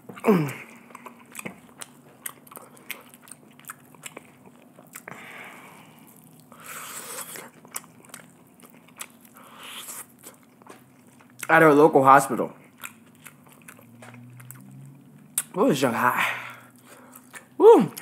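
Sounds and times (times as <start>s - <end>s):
chewing fried chicken crunching: 0.0s - 18.0s.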